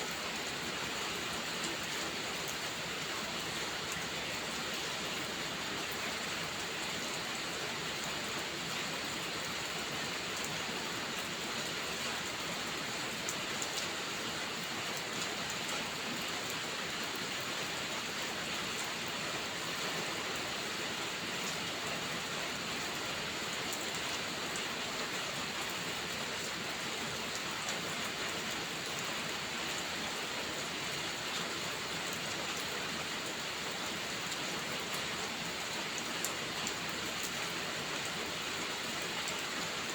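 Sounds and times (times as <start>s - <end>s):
faint ticks of raindrops: 0.0s - 39.9s
steady rain hiss: 0.0s - 39.9s.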